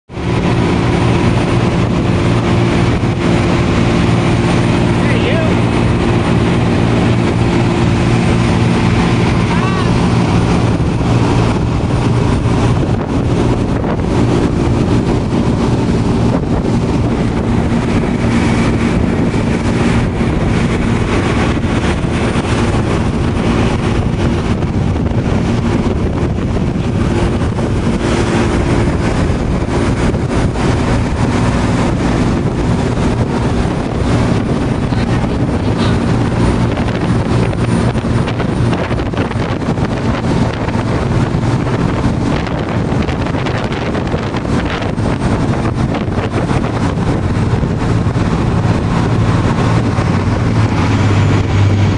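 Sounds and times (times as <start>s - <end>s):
boat engines droning: 0.1s - 51.9s
wind buffeting microphone: 0.1s - 51.9s.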